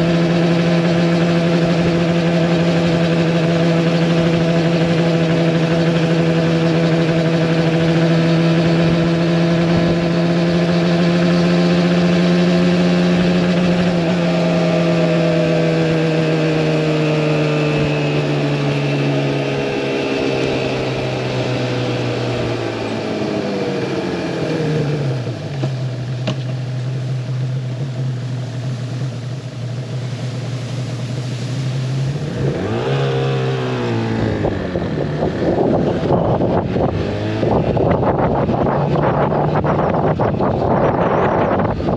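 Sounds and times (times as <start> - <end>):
two-stroke motorcycle engine running: 0.0 - 41.9.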